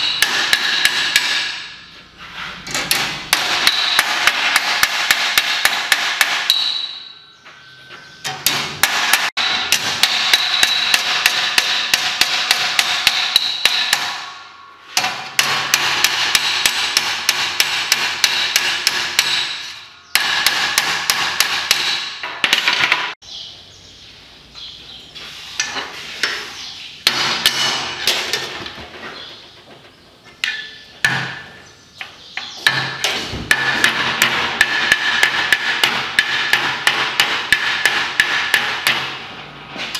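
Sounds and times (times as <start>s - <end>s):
hammer striking sheet steel: 0.0s - 1.9s, 2.7s - 7.2s, 8.3s - 23.2s, 25.6s - 28.7s, 32.4s - 39.9s.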